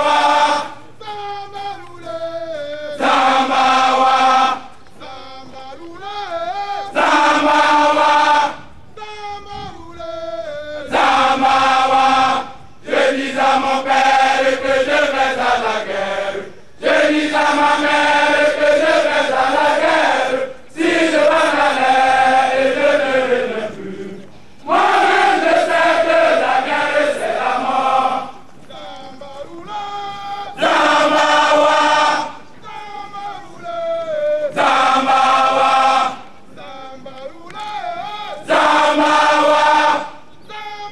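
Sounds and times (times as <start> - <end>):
many voices chanting in unison: 0.0 - 40.9.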